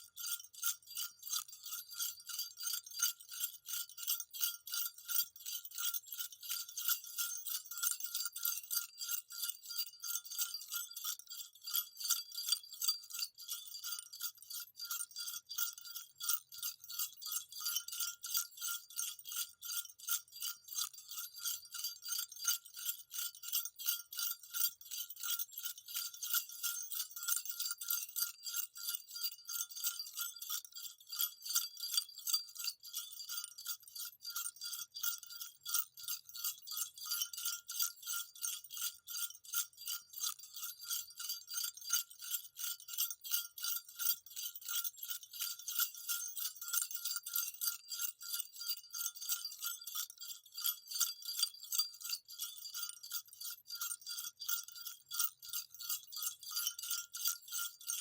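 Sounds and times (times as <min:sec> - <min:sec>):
jingle bells shaken: 0:00.0 - 0:58.0.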